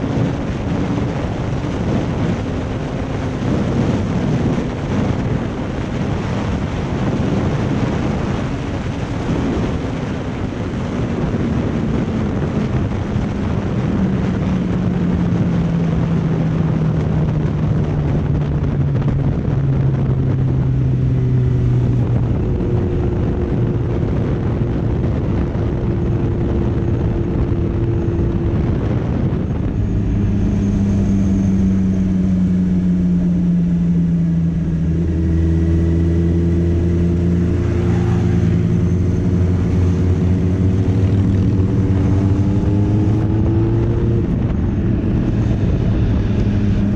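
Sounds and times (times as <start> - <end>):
motorcycle engine: 0.0 - 46.9
wind rush on microphone: 0.0 - 46.9.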